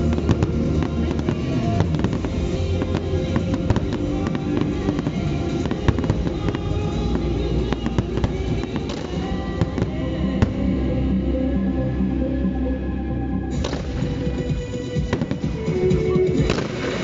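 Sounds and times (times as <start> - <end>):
fireworks bangs and crackles: 0.0 - 10.7, 13.6 - 17.0
music playing: 0.0 - 17.0.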